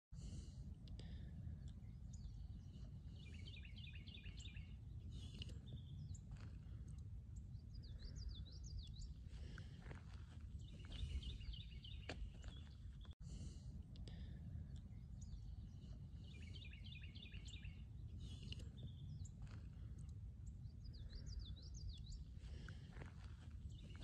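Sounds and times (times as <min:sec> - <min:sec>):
songbirds chirping: 0:00.2 - 0:24.0.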